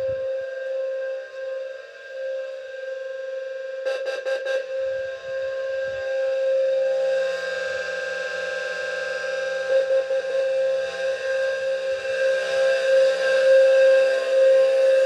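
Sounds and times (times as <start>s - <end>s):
continuous fire alarm horn: 0.0s - 15.0s
pulsing fire alarm horn: 0.0s - 15.0s.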